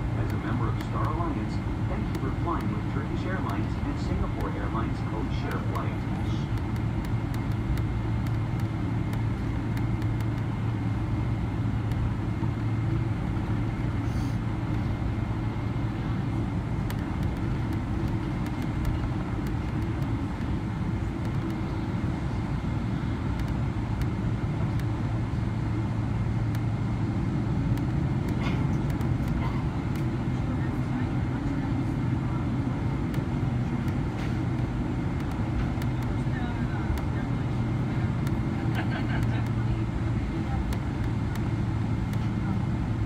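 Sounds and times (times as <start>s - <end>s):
aircraft cabin noise while taxiing: 0.0s - 43.0s
faint high engine whine: 0.0s - 43.0s.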